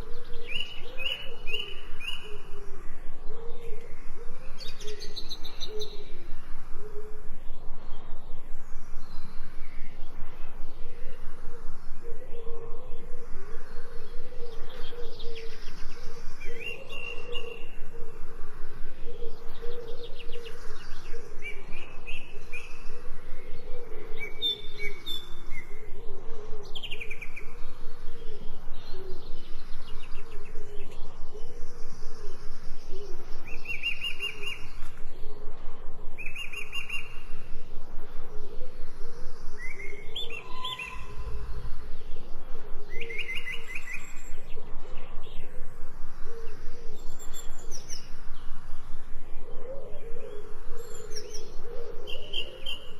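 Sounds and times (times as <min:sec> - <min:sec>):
birds chirping and singing: 0:00.0 - 0:52.9.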